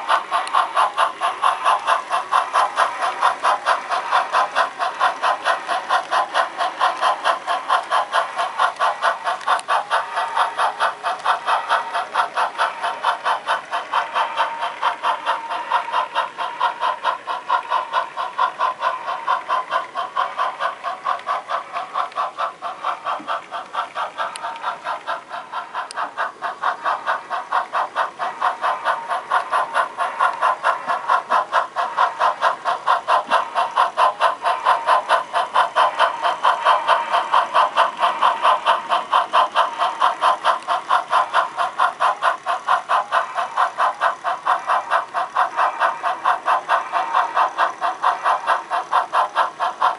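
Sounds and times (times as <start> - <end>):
model steam locomotive chuffing: 0.0 - 49.9.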